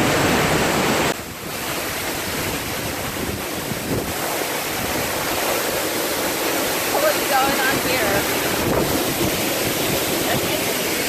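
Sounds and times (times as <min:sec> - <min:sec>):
falling water: 0:00.0 - 0:11.0
wind buffeting microphone: 0:00.0 - 0:11.0.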